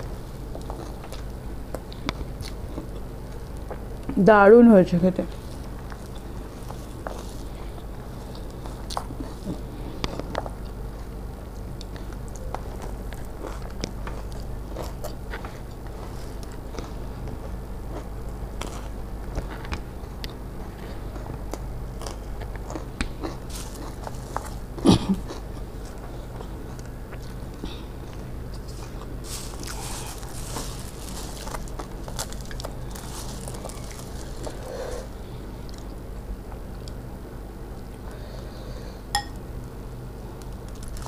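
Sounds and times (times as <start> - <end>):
chewing and crunching: 0.4 - 4.2, 5.3 - 37.0, 40.4 - 41.0.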